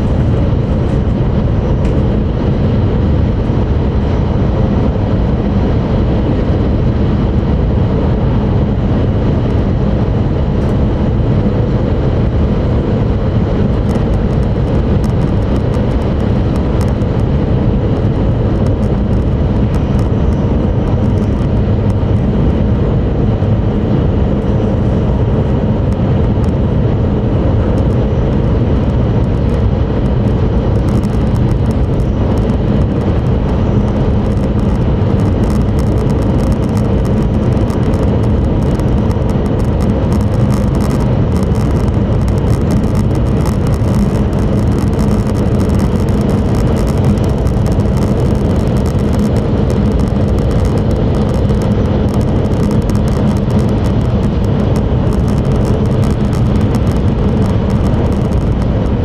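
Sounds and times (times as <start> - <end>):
faint steady hum: 0.0 - 59.0
train wheels and rushing air: 0.0 - 59.0.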